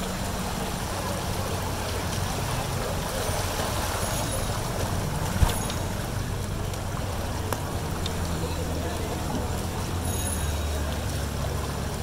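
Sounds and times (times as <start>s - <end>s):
water sloshing and rushing: 0.0s - 12.0s.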